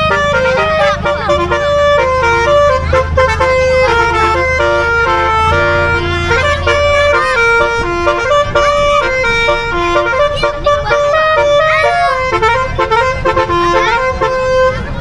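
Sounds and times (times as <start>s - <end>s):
bus air horn playing a tune: 0.0s - 15.0s
low engine rumble: 0.0s - 15.0s.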